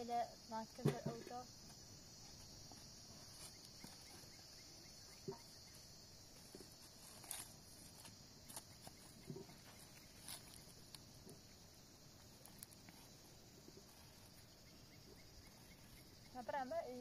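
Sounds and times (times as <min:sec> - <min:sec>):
high insect chirring: 0:00.0 - 0:17.0.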